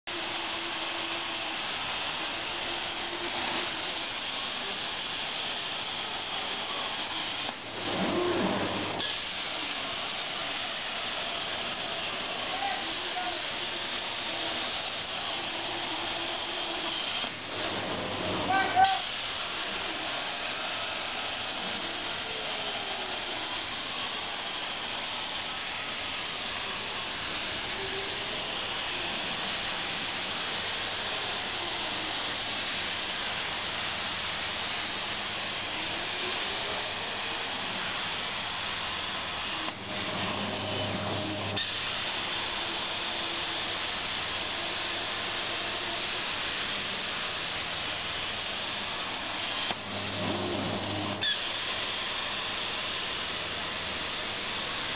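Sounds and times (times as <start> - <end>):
plasma cutter hissing: 0.1 - 54.9.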